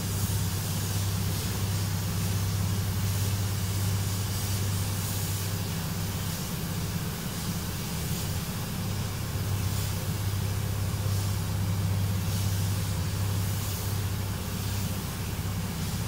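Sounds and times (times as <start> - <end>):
low machine hum: 0.0 - 16.0
spray gun hissing: 0.0 - 16.0.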